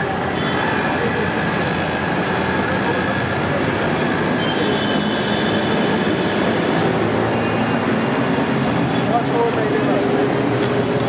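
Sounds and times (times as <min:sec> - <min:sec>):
passing road traffic: 0:00.0 - 0:11.0.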